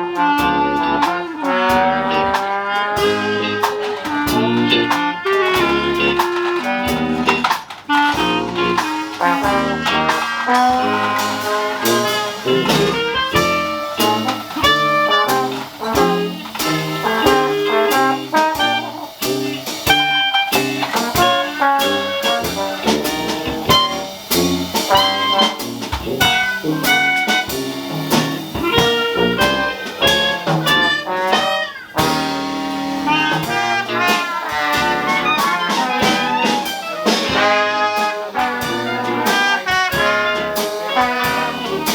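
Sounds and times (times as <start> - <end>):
brass horns: 0.0 - 41.9
dixieland jazz band playing: 0.0 - 41.9.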